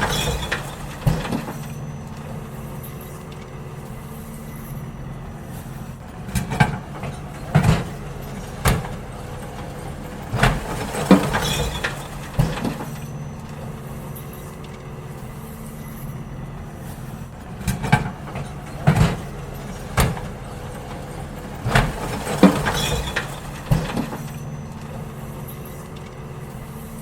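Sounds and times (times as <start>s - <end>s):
bins banging and clattering: 0.0s - 27.0s
garbage truck engine running: 0.0s - 27.0s.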